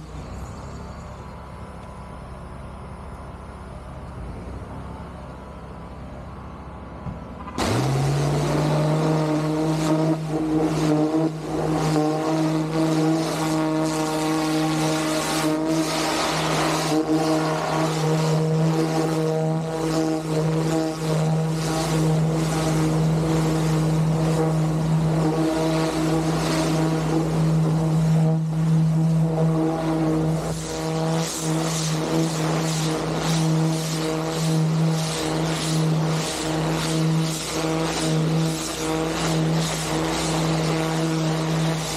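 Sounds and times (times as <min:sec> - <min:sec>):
pressure washer engine humming: 0:00.0 - 0:41.9.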